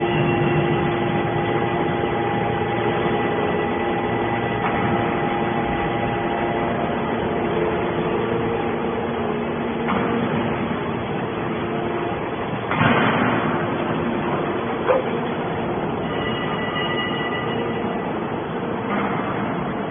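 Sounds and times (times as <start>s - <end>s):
baler power unit humming: 0.0s - 19.9s.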